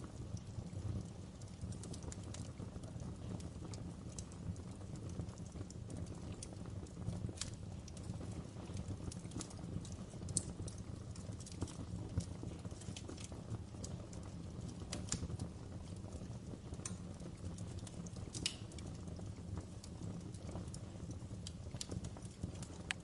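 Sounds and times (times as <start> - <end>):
fire popping and snapping: 0.0 - 23.0
low rumble of flames: 0.0 - 23.0.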